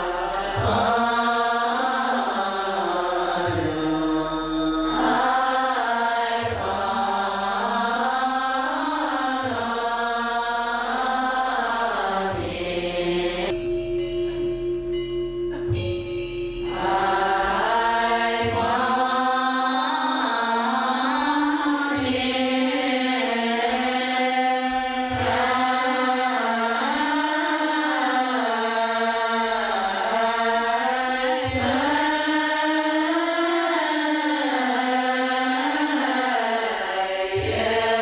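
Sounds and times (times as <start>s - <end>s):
women chanting in unison: 0.0s - 13.6s, 16.7s - 38.0s
sharp percussive strikes: 0.0s - 38.0s.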